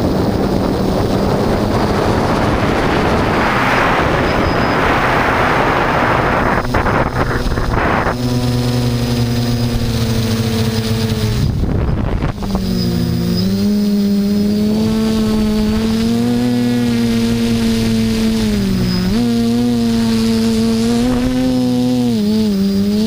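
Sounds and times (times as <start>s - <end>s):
quadcopter motors humming: 0.0s - 23.0s
wind noise rush: 0.0s - 23.0s.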